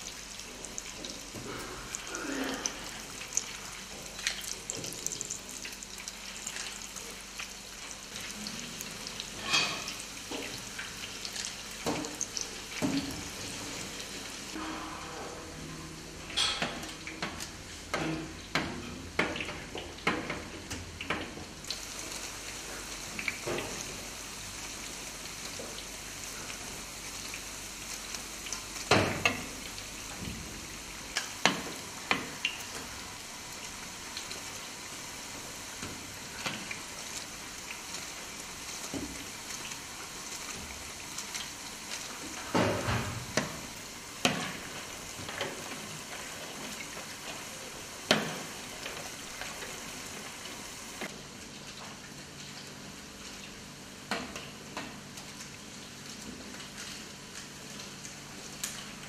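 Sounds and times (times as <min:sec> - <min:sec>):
pastry sizzling in oil: 0:00.0 - 0:14.6, 0:21.6 - 0:59.0.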